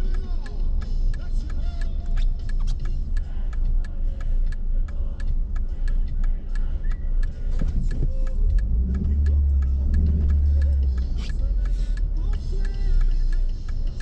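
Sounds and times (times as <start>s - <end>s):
car engine and road noise: 0.0s - 14.0s
turn signal ticking: 0.0s - 14.0s.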